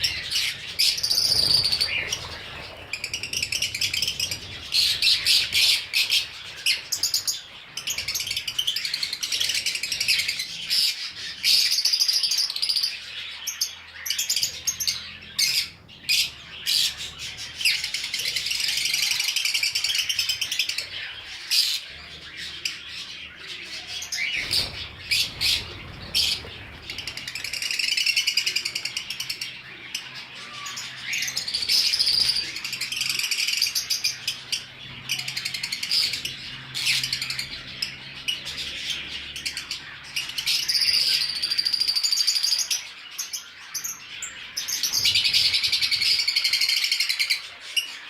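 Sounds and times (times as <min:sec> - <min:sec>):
caged birds chirping: 0:00.0 - 0:48.0.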